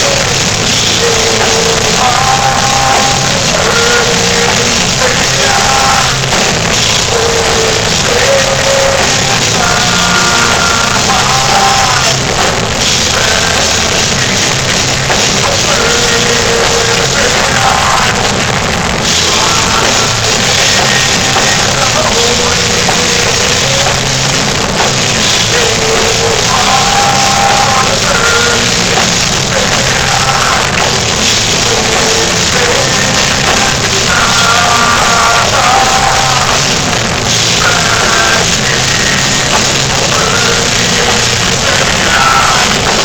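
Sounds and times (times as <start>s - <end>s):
distorted electric guitars: 0.0s - 43.0s
drum kit: 0.0s - 43.0s.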